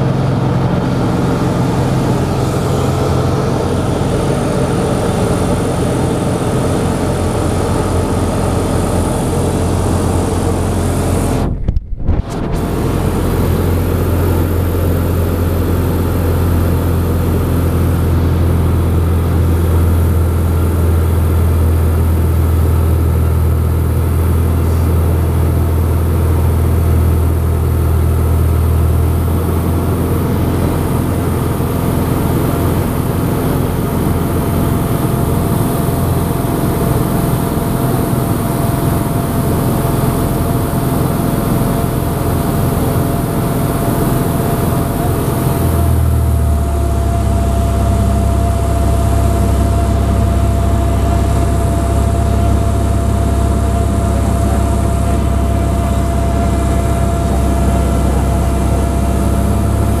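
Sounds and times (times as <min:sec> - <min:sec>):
propeller engine droning: 0:00.0 - 1:00.0
thin steady whine: 0:00.0 - 1:00.0.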